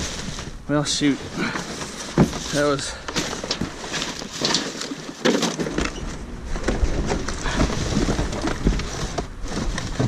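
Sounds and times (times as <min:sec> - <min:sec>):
cardboard boxes rustling and scraping: 0:00.0 - 0:10.0.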